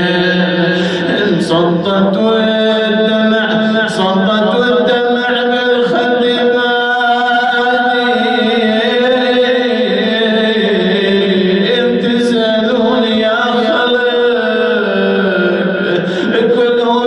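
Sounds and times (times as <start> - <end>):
person chanting: 0.0 - 17.0.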